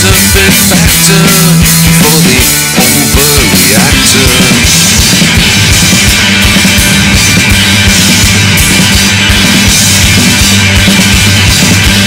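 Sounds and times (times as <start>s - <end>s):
instrumental rock band: 0.0s - 12.0s
steady drum beat: 0.0s - 12.0s.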